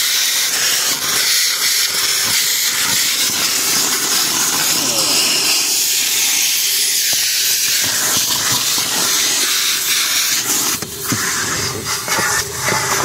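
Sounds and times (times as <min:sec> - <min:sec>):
vacuum hose suction hiss: 0:00.0 - 0:13.0.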